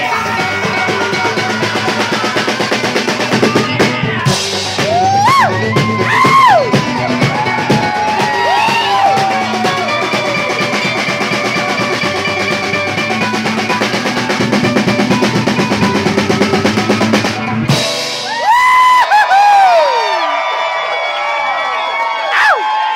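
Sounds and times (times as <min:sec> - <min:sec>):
drum roll: 0:00.0 - 0:19.8
live band playing: 0:00.0 - 0:20.3
crowd cheering: 0:00.0 - 0:22.9.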